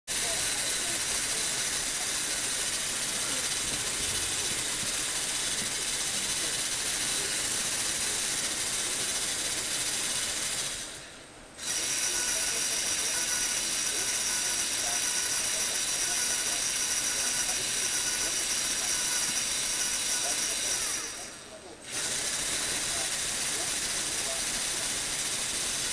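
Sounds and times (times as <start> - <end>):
toy electric motor whirring: 0.1 - 25.9.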